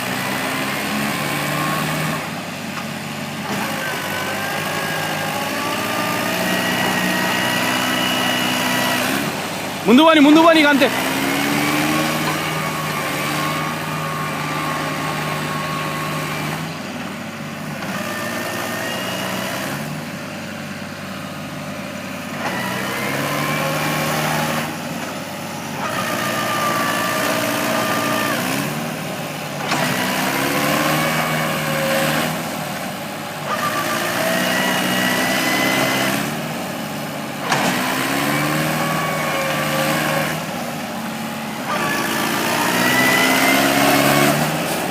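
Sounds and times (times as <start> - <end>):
tractor engine revving: 0.0 - 44.9.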